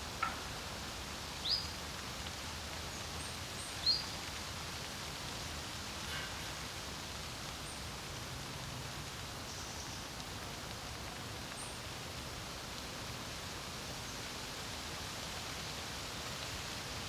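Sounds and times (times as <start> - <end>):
wind rustling: 0.0 - 17.0.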